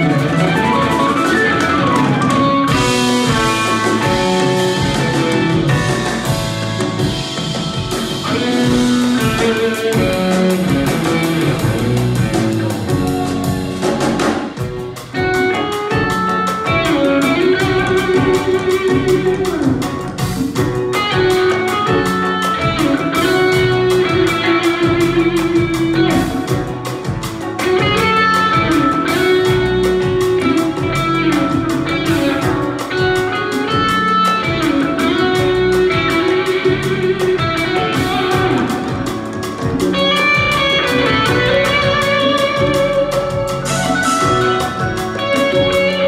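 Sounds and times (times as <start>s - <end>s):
drums with cymbal strokes: 0.0s - 46.0s
electric bass: 0.0s - 46.0s
electric guitar fast melodic lines: 0.0s - 46.0s.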